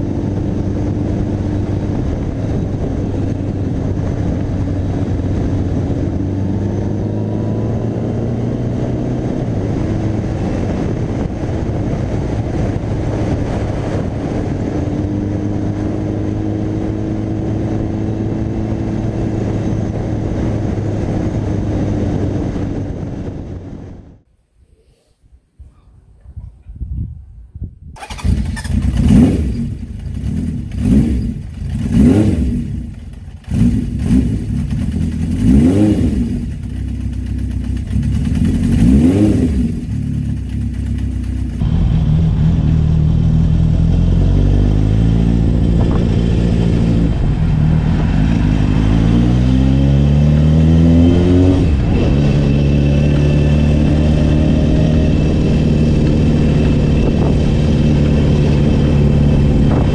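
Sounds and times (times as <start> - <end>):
motorcycle engine revving: 0.0 - 24.0, 28.0 - 59.9
motorcycle accelerating through gears: 0.0 - 24.2, 28.0 - 59.9.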